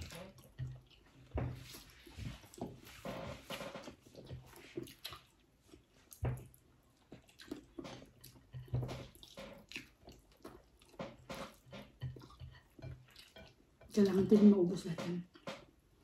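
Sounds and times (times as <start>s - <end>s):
chewing and wet mouth sounds: 0.0s - 14.4s.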